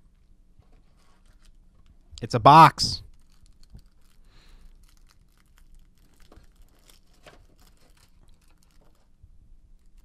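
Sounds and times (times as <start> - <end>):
plastic wrap crinkling: 0.7 - 2.0, 3.0 - 10.0.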